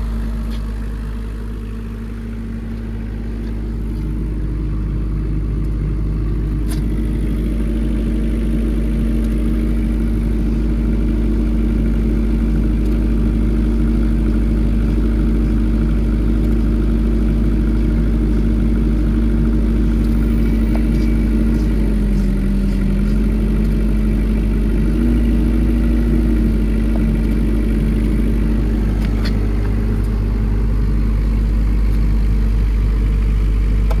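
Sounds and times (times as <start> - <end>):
diesel generator humming: 0.0 - 34.0.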